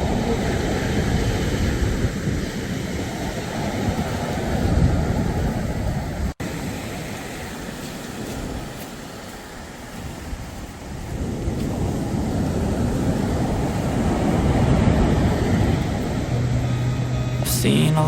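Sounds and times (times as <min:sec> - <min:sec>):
wind buffeting microphone: 0:00.0 - 0:17.5
sea surf: 0:00.0 - 0:18.0.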